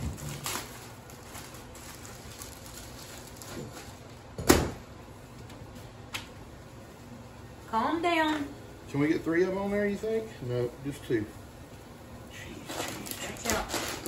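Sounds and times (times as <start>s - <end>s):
quiet kitchen background: 0.0s - 14.0s.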